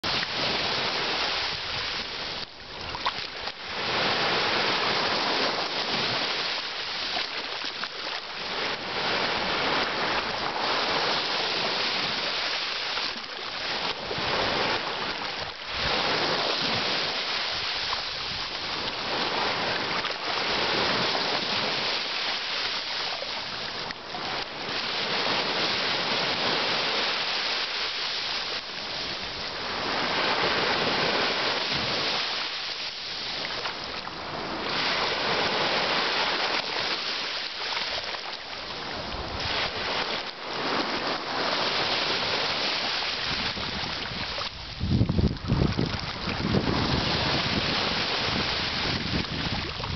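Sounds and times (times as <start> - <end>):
small waves washing on shore: 0.0 - 49.9.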